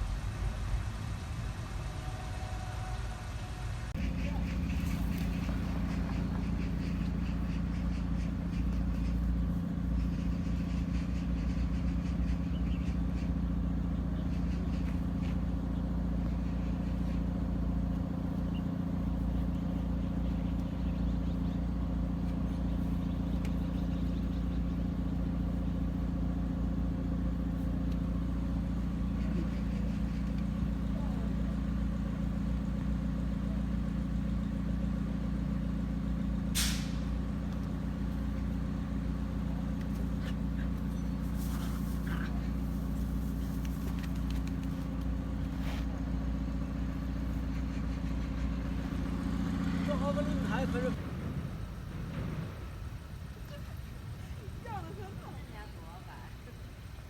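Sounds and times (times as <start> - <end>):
motor humming: 1.5 - 57.0.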